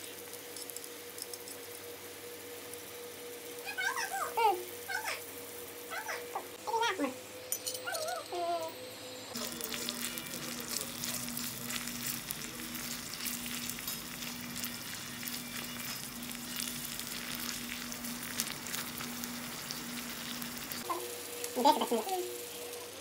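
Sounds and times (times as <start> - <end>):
vegetables sizzling in hot oil: 0.0 - 6.2, 9.3 - 23.0
low steady hum: 0.0 - 23.0.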